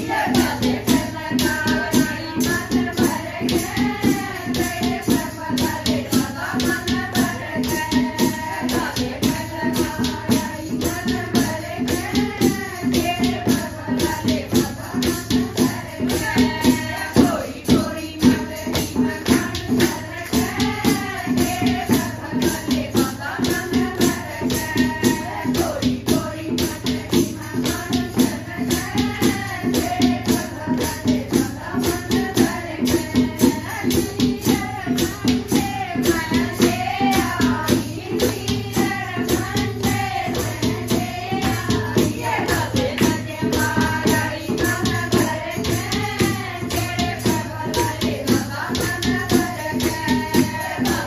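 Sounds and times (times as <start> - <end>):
clay pot drum: 0.0 - 51.0
rhythmic hand clapping: 0.0 - 51.0
shaken rattle: 0.0 - 51.0
women singing in chorus: 0.0 - 51.0.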